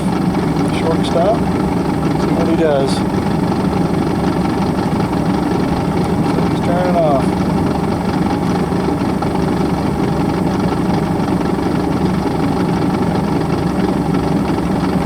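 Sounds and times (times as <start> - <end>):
airplane engine idling: 0.0 - 15.0.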